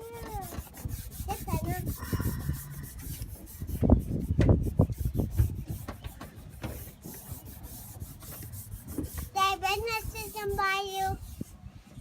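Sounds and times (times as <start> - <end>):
hand rubbing decal on glass: 0.0 - 11.6.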